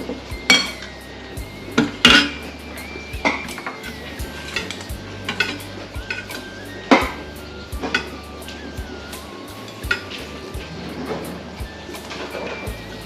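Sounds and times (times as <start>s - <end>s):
utensils clinking against plates: 0.0s - 1.1s, 1.7s - 12.8s.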